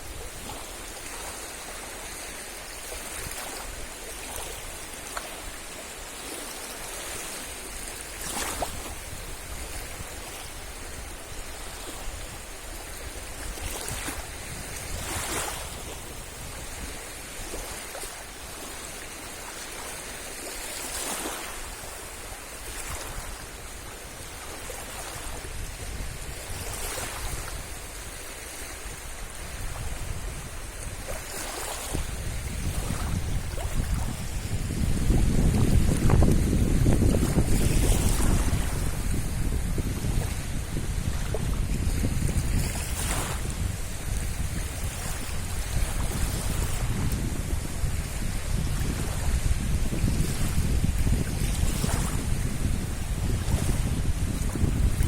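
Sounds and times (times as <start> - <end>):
waves breaking: 0.0 - 55.0.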